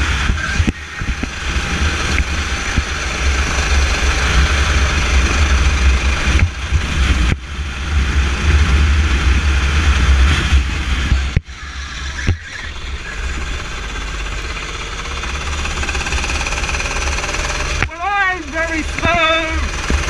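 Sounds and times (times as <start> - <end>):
go-kart engine running: 0.0 - 20.0.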